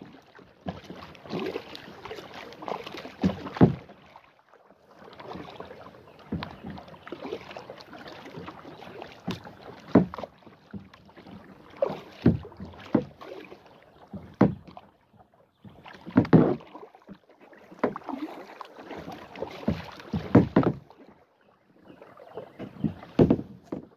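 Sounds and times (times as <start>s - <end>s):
paddle splashing into water: 0.0s - 23.9s
water swishing: 0.0s - 23.9s.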